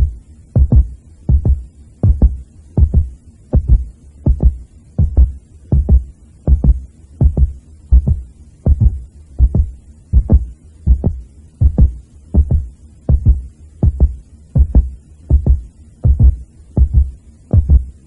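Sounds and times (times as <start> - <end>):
heartbeat double thumps: 0.0 - 18.0.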